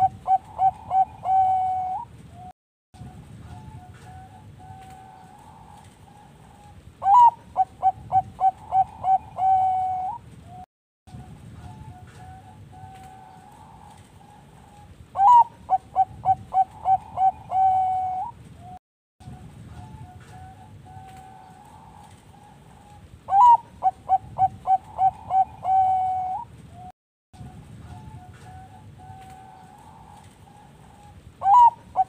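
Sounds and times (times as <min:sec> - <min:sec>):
dove cooing: 0:00.0 - 0:02.5, 0:03.4 - 0:10.6, 0:11.6 - 0:18.8, 0:19.5 - 0:26.9, 0:27.8 - 0:32.0.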